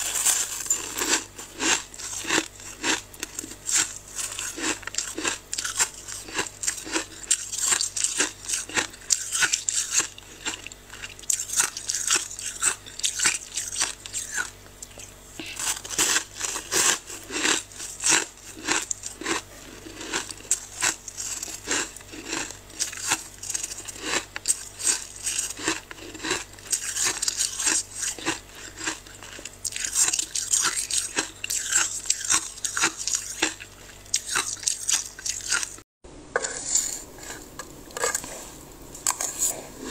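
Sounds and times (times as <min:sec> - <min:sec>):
frost crunching: 0:00.0 - 0:35.8.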